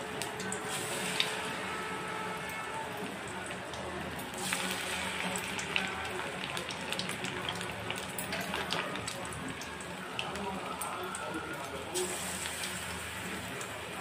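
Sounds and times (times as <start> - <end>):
deep-frying sizzle with pops: 0.0 - 14.0.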